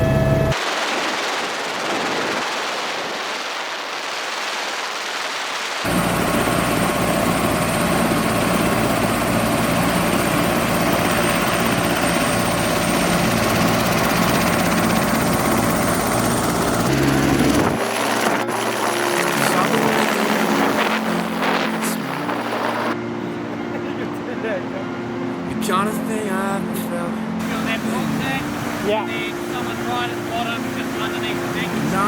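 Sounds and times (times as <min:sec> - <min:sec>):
helicopter running: 0:00.0 - 0:26.5, 0:27.2 - 0:32.0.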